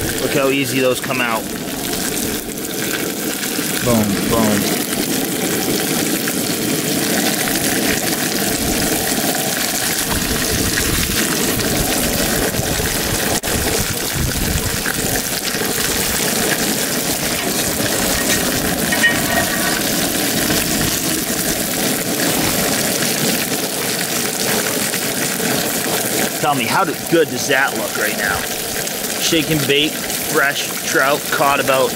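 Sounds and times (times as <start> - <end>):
fish fillets sizzling in oil: 4.8 - 31.9.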